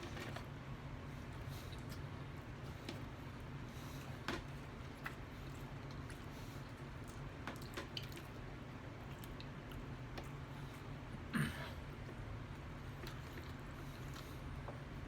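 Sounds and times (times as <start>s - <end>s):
chewing food: 1.2s - 11.3s, 12.0s - 15.0s.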